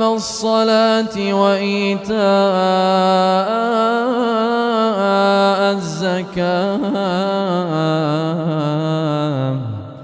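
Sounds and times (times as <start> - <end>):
man reciting in melodic chant: 0.0 - 10.0.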